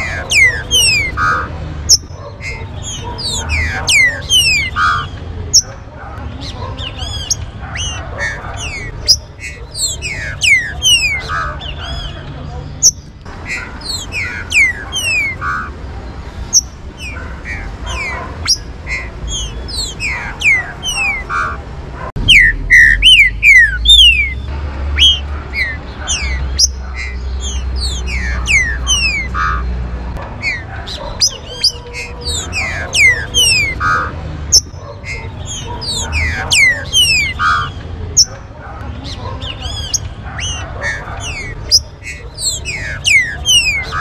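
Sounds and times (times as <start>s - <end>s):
birds singing whistled notes: 0.0s - 21.6s, 22.2s - 44.0s.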